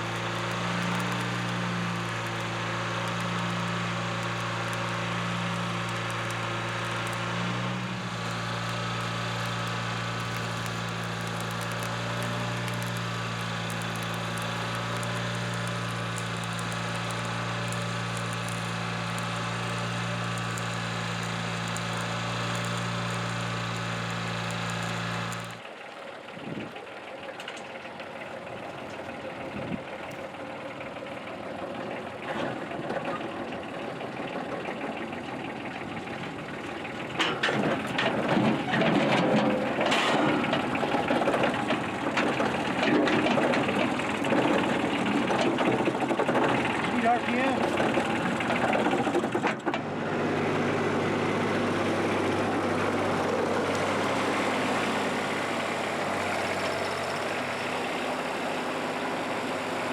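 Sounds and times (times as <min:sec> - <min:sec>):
diesel engine idling: 0:00.0 - 0:32.2, 0:39.6 - 0:59.9.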